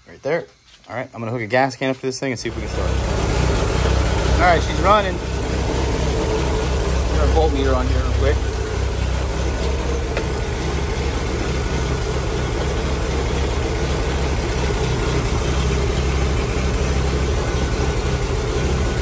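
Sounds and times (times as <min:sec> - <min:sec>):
engine idling: 0:02.4 - 0:19.0.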